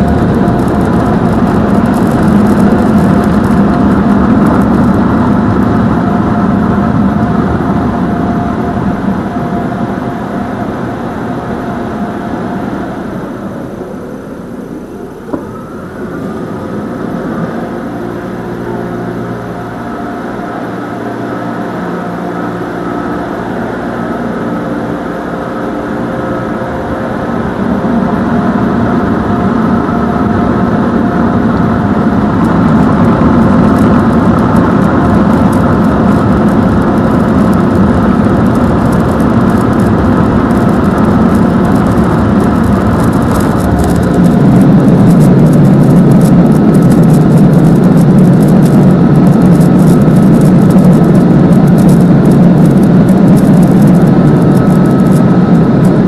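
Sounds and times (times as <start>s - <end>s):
car wash motor hum: 0.0s - 56.0s.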